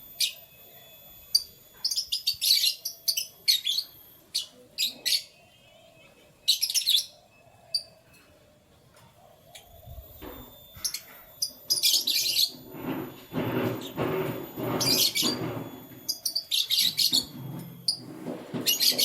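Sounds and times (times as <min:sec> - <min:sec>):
canaries chirping: 0:00.0 - 0:19.0.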